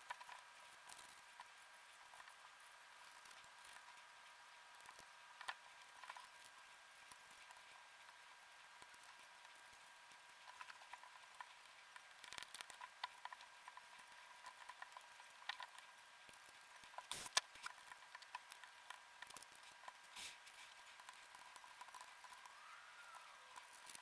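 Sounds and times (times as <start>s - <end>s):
faint high-pitched hum: 0.0s - 24.0s.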